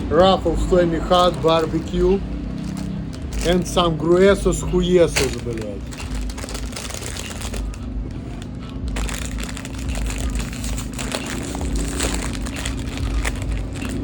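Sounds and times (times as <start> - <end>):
car engine running: 0.0 - 14.0
light crinkling and clicks: 1.0 - 14.0.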